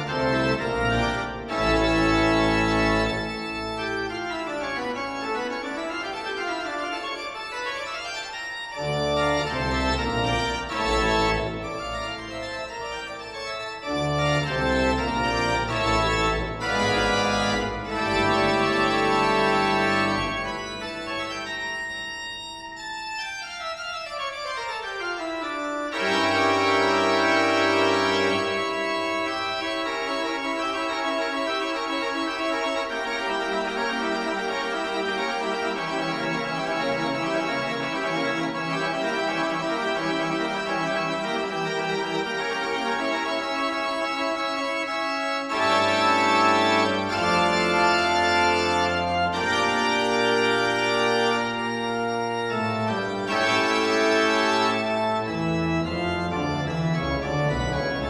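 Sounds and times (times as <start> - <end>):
instrumental music of held chords: 0.0 - 58.0.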